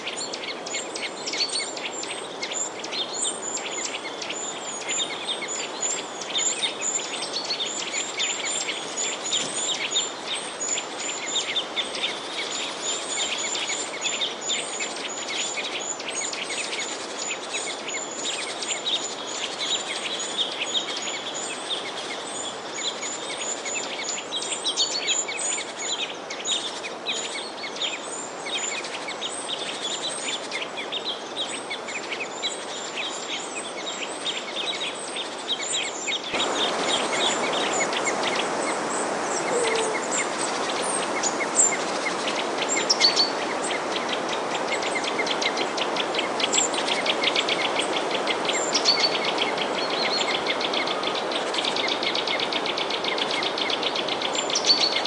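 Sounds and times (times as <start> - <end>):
background hiss: 0.0 - 54.9
small birds chirping: 0.0 - 55.0.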